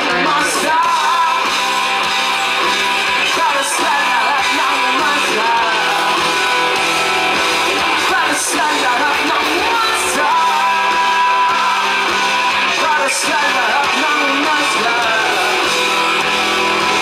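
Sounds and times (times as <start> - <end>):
bass guitar: 0.0 - 17.0
distorted electric guitars: 0.0 - 17.0
drums with cymbals: 0.0 - 17.0
person singing: 0.0 - 17.0.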